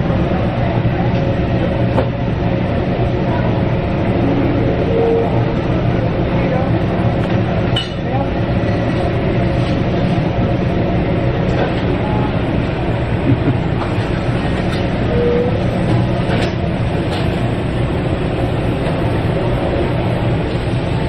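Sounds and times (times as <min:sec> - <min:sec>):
food court rumble: 0:00.0 - 0:21.0.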